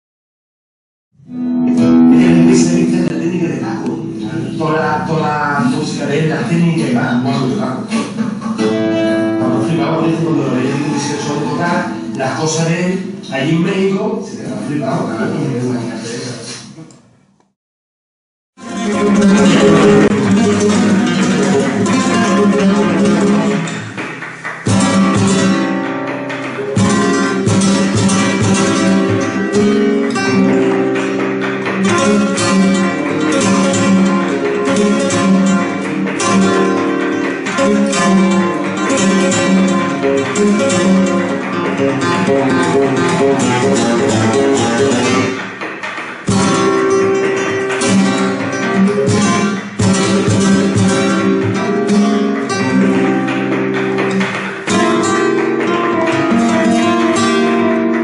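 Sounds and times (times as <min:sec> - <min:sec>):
flamenco acoustic guitar: 0:01.2 - 0:15.3, 0:18.6 - 0:58.0.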